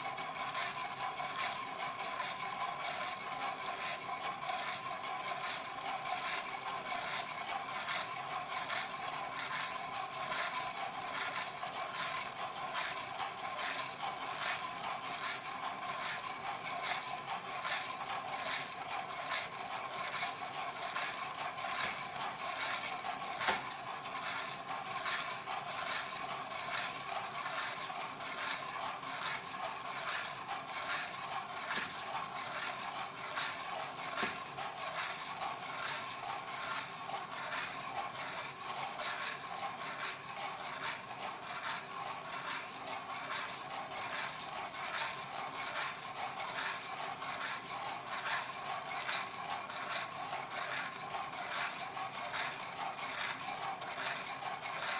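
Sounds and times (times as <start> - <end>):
coffee beans rattling in roaster: 0.0 - 54.9.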